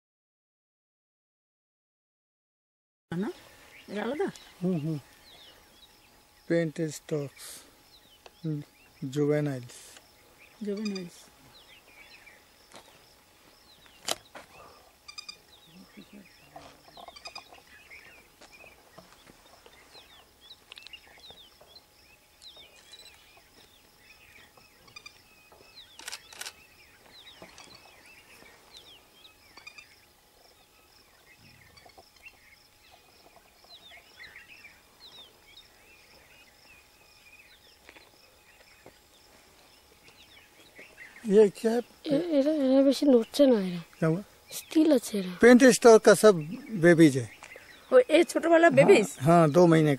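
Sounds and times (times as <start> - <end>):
birds chirping: 3.1 - 49.9.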